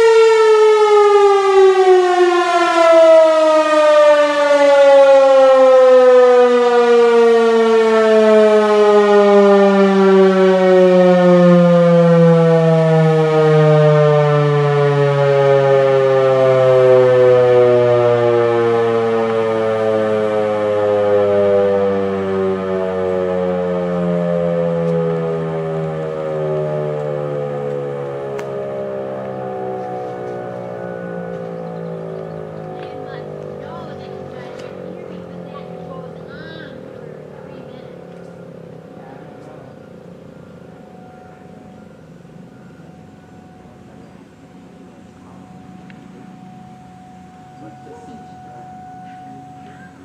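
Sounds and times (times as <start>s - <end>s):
dual-tone siren winding down: 0.0s - 50.0s.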